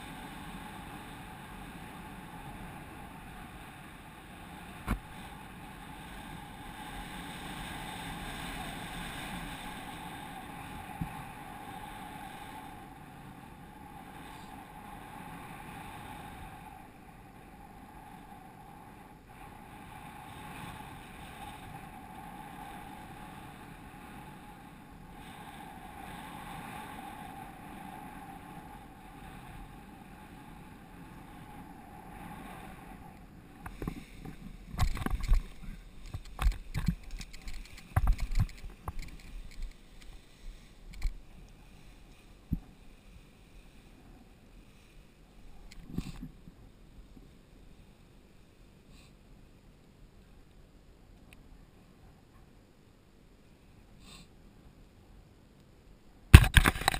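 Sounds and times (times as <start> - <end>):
wind rushing over camera: 0.0 - 48.2, 56.2 - 56.9
faint hum: 0.0 - 56.9.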